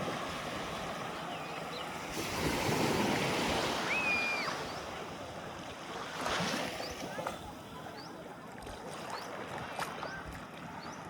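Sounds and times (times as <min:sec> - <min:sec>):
sea waves washing: 0:00.0 - 0:11.0
wind: 0:00.0 - 0:11.0.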